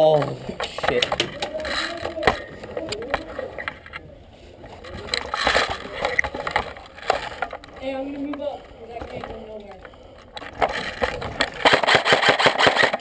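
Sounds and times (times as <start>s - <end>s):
faint voices: 0.0s - 11.7s.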